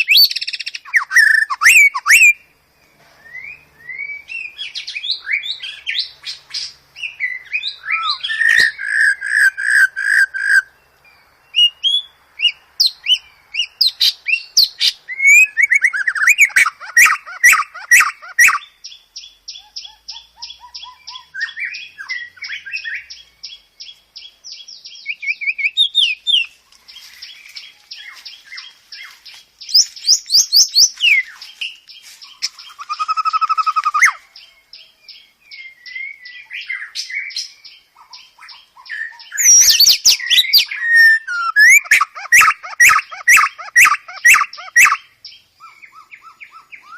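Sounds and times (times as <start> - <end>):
songbird whistling and chattering: 0.0 - 2.4, 3.2 - 10.7, 11.5 - 26.5, 27.2 - 46.9
bird trill: 0.0 - 46.9.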